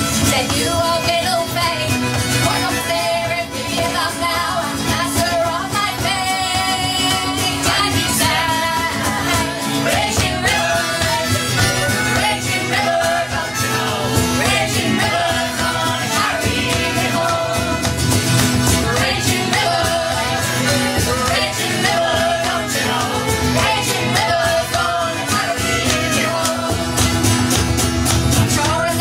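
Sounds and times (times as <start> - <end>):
live band with acoustic instruments: 0.0 - 29.0.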